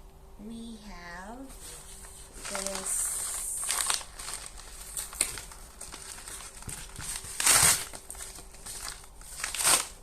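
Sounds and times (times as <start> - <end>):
packaging rustling: 1.6 - 10.0.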